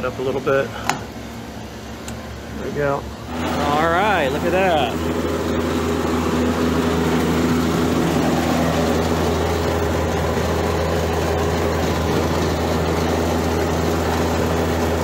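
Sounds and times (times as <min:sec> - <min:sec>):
refrigeration unit humming: 0:00.0 - 0:15.0.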